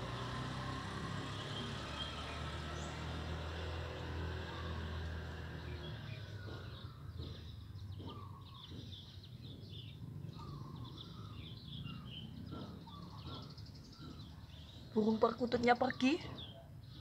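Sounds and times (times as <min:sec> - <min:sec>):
small birds chirping: 0:00.0 - 0:17.0
vehicle low rumble: 0:00.0 - 0:17.0.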